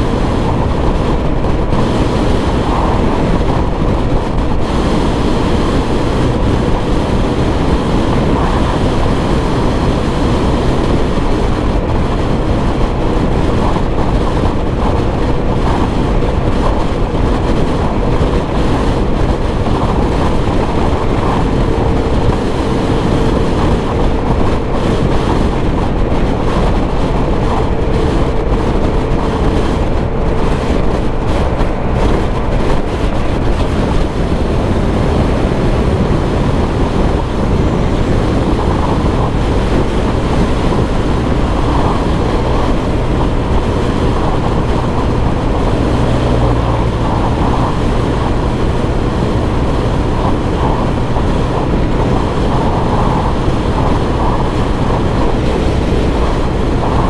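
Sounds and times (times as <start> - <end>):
scooter engine running: 0.0 - 57.0
wind noise on microphone: 0.0 - 57.0.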